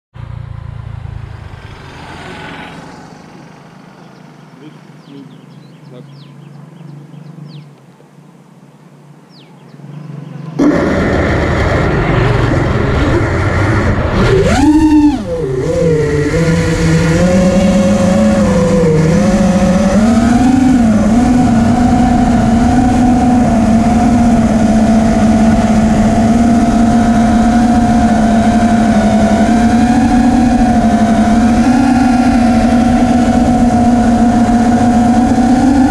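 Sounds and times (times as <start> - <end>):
drone propellers buzzing: 0.2 - 7.8, 9.0 - 35.9.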